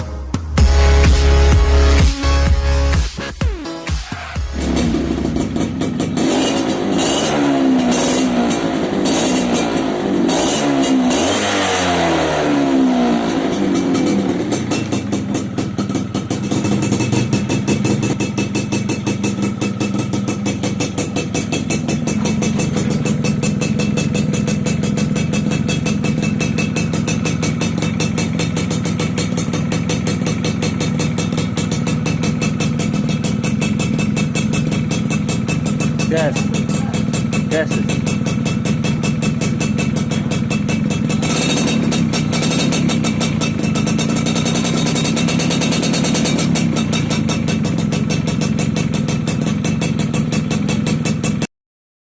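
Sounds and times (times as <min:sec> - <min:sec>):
moped engine revving and idling: 0:00.0 - 0:51.5.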